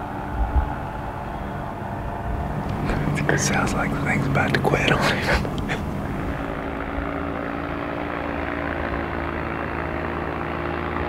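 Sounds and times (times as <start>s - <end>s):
propeller airplane engine humming: 0.0s - 11.0s.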